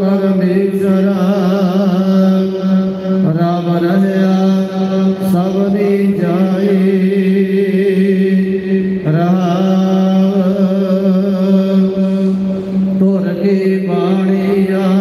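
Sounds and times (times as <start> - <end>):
devotional chanting over loudspeakers: 0.0 - 15.0
held drone note: 0.0 - 15.0.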